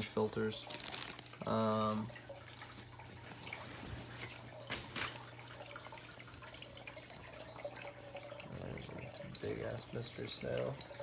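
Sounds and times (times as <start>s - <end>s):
aquarium filter water bubbling: 0.0s - 11.0s
water drips: 0.0s - 11.0s.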